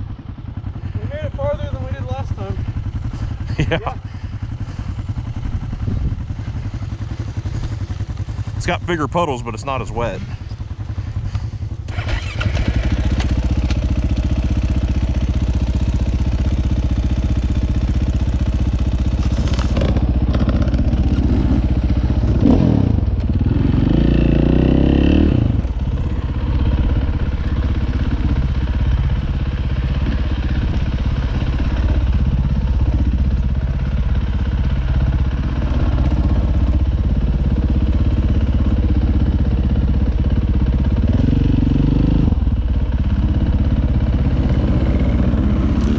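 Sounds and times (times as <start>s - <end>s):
dirt bike engine revving: 2.4s - 45.9s.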